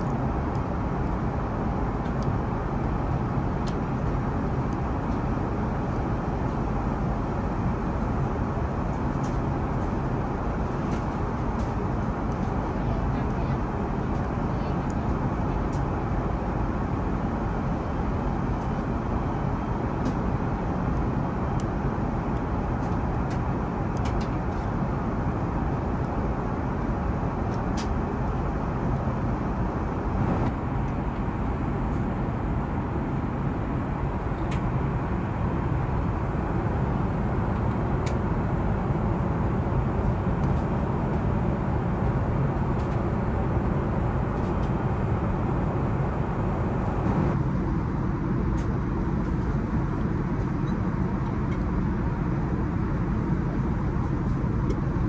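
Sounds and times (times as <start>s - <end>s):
aircraft cabin roar in flight: 0.0s - 55.0s.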